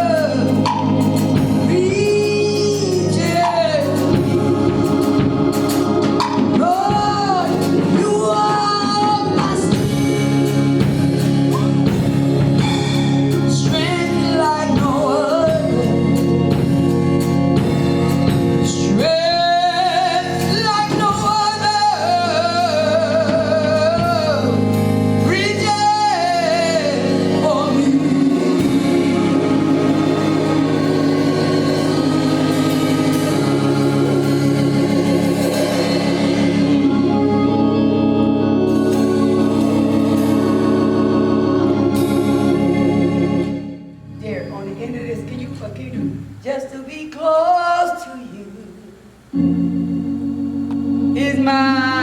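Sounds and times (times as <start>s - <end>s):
held instrumental chords: 0.0s - 47.0s, 49.1s - 52.0s
person singing gospel: 0.0s - 52.0s.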